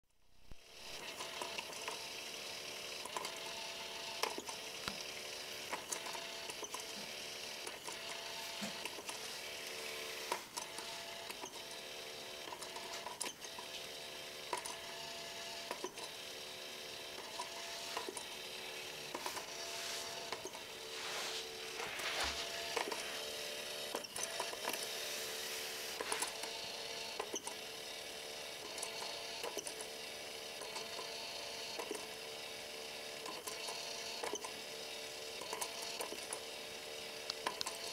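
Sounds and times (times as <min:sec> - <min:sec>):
toy motor whirring: 0:00.4 - 0:37.9.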